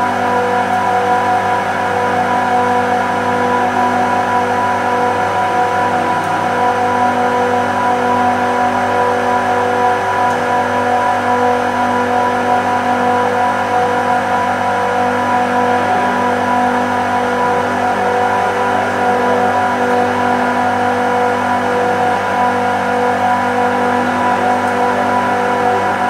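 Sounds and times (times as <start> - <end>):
refrigeration compressors humming: 0.0 - 26.0.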